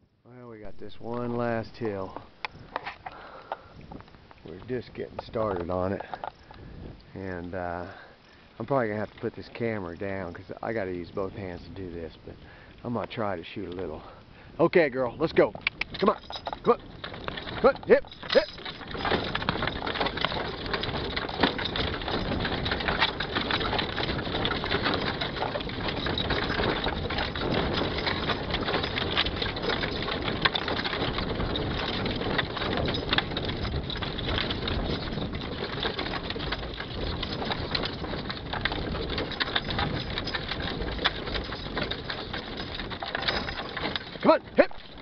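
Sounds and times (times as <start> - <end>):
hooves on gravel: 0.4 - 45.0
wagon wheels crunching on gravel: 0.5 - 45.0.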